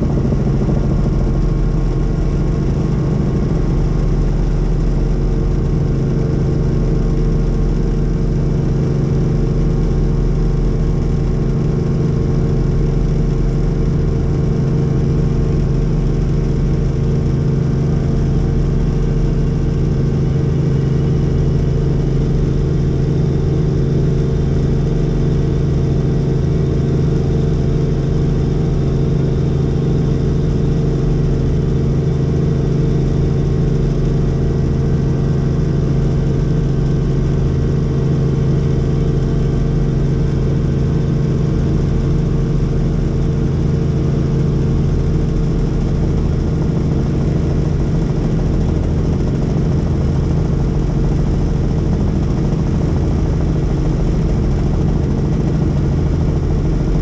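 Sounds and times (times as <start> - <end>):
helicopter cabin drone: 0.0 - 57.0.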